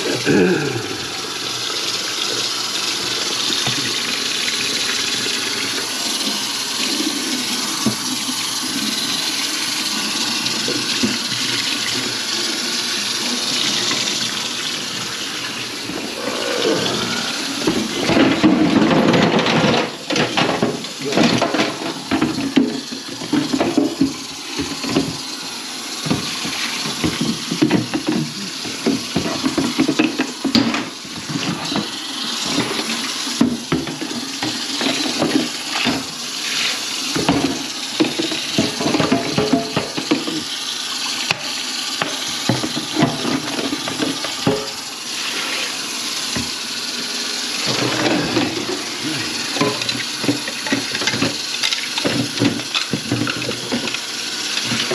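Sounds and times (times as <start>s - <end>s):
water running into sink: 0.0s - 54.9s.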